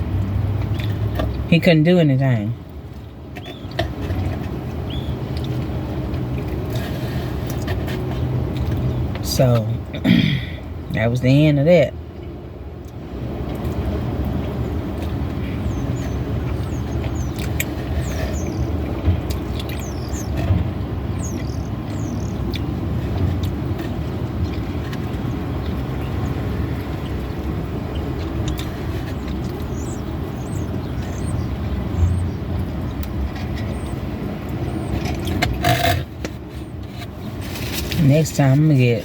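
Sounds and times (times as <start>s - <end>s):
vehicle engine rumbling: 0.0s - 39.0s.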